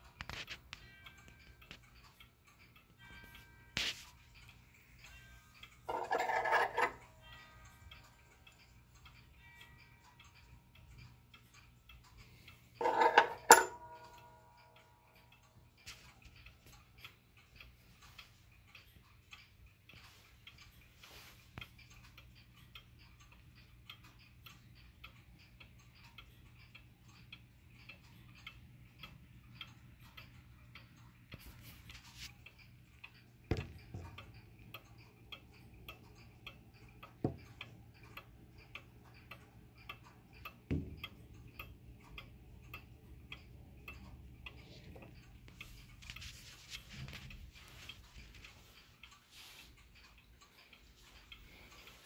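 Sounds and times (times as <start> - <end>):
clock ticking: 0.0 - 52.0.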